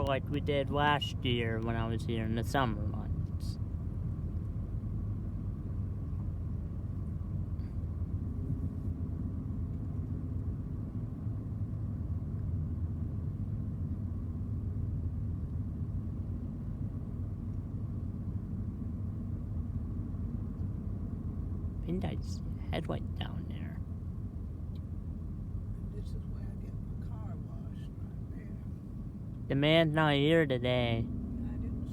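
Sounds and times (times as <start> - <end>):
car cabin road rumble: 0.0 - 31.9.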